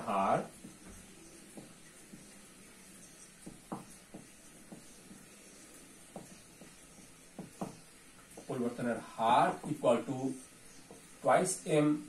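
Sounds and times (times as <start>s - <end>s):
marker scratching on whiteboard: 0.0s - 11.1s
low room hiss: 0.0s - 12.0s.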